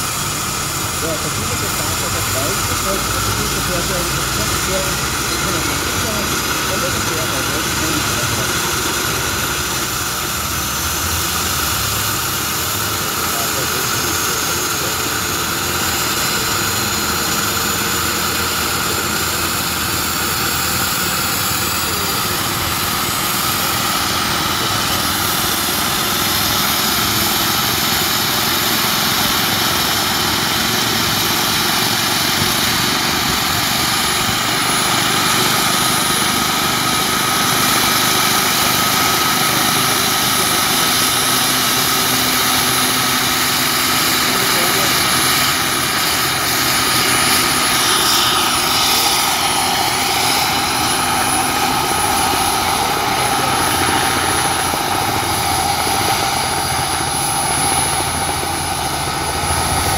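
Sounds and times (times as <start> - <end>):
model helicopter spooling up: 0.0 - 59.9.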